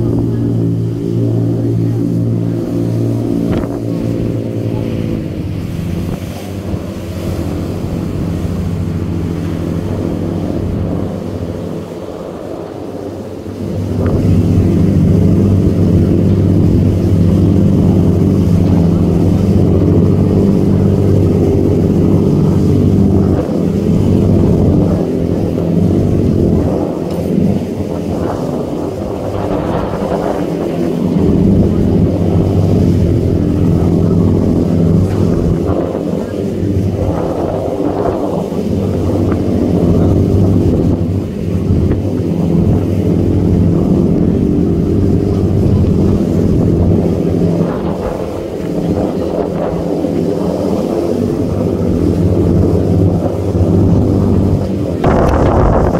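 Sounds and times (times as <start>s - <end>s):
boat engine drone: 0.0s - 55.9s
rush of churning wake: 0.0s - 55.9s.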